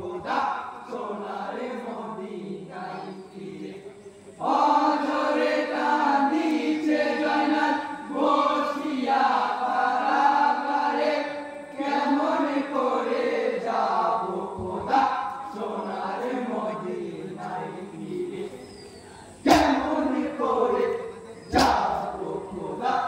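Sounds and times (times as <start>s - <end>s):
men singing a chanted lament: 0.0s - 23.0s.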